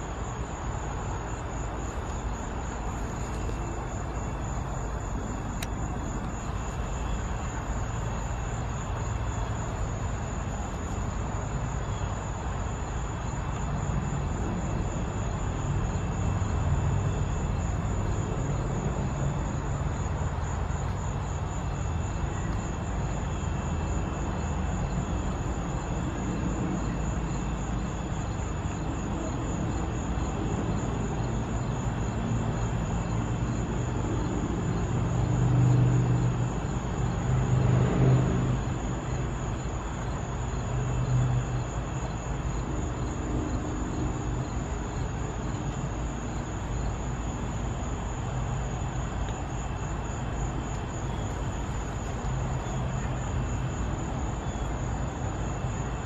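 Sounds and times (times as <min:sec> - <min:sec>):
pulsing insect trill: 0:00.0 - 0:56.0.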